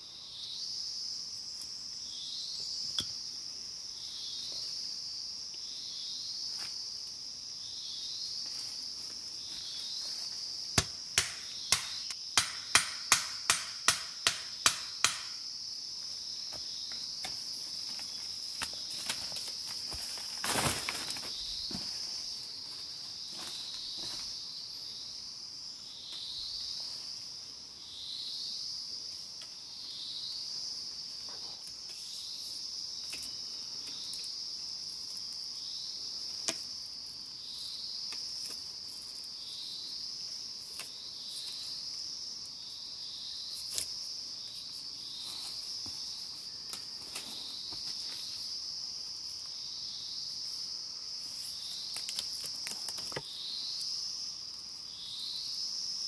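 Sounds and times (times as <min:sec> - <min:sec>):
forest insects shrilling: 0:00.0 - 0:56.0.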